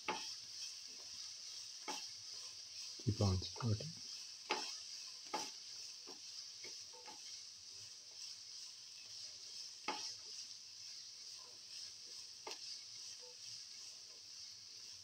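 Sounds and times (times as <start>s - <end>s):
onion sizzling in oil: 0.0s - 15.0s
spatula scraping pan: 0.0s - 15.0s.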